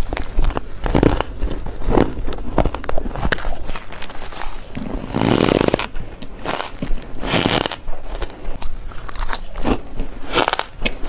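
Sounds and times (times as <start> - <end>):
chewing crunchy ice: 0.0 - 11.0.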